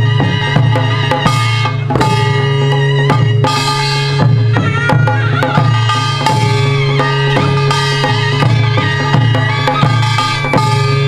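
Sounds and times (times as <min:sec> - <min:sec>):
barrel drums struck with sticks: 0:00.6 - 0:11.0
wavering melodic line: 0:01.2 - 0:11.0.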